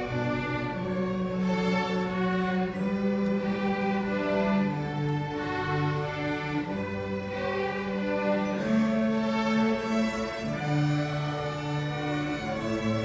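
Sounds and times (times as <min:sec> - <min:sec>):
orchestra playing slow piece: 0:00.0 - 0:13.0.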